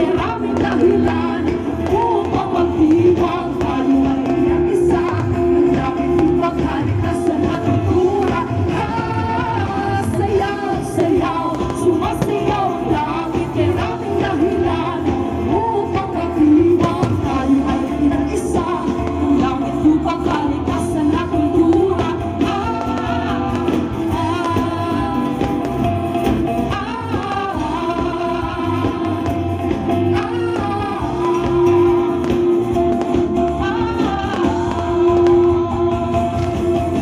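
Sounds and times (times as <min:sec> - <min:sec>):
song with singing voice: 0:00.0 - 0:37.0.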